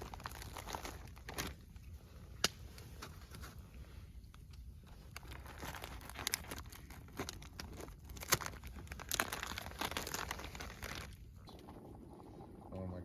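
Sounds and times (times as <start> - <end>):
sharp snaps and crackles: 0.0 - 12.0
crinkling and rustling: 0.0 - 12.7.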